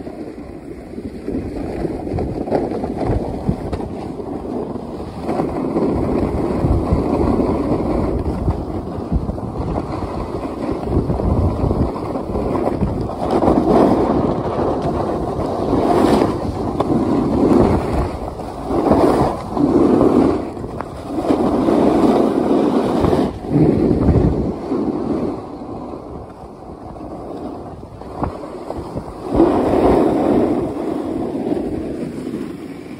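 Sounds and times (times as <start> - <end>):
ski edges carving packed snow: 0.0 - 32.9
wind rumbling on microphone: 0.0 - 32.9.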